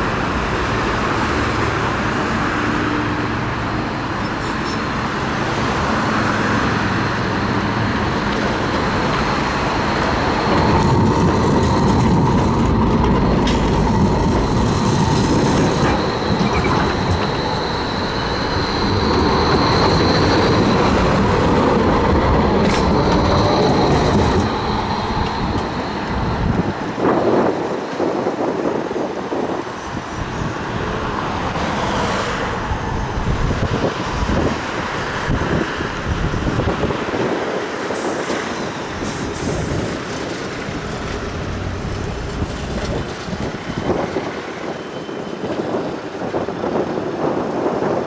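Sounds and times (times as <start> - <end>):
tram wheels whining on rails: 0.0 - 48.0.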